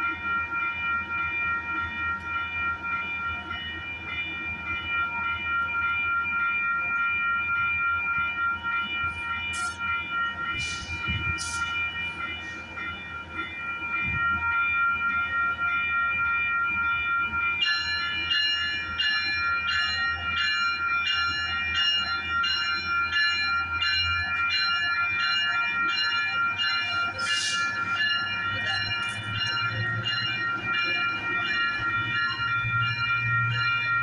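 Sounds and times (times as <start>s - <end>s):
crossing warning bell ringing: 0.0s - 34.0s
train running: 0.0s - 34.0s.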